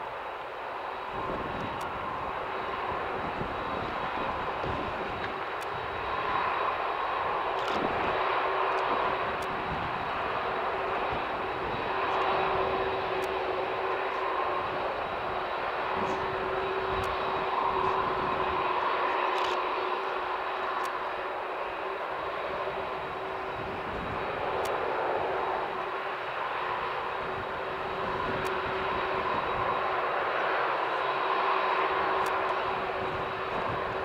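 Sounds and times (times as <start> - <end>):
jet engines running at low power: 0.0 - 34.0.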